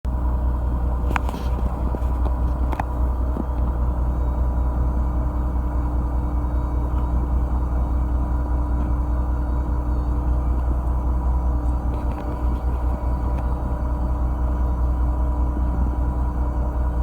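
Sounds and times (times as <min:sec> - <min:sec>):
boat engine running: 0:00.1 - 0:17.0.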